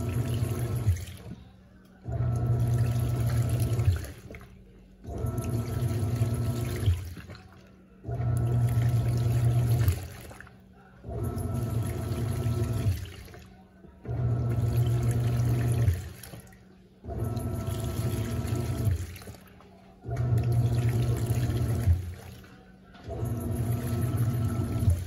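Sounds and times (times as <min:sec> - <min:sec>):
washing machine churning water: 0:00.0 - 0:25.0.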